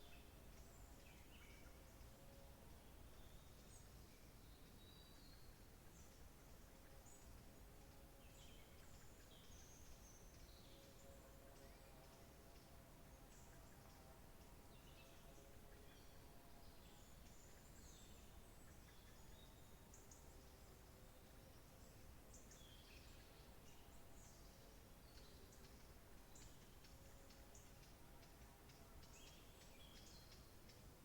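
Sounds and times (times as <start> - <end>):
soft background hiss: 0.0 - 31.0.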